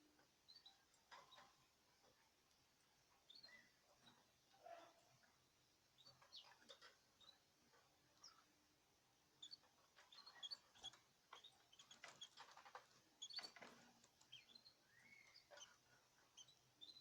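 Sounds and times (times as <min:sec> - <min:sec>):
faint birds chirping: 0:00.0 - 0:17.0
light clicks and scratches in cage: 0:00.0 - 0:17.0.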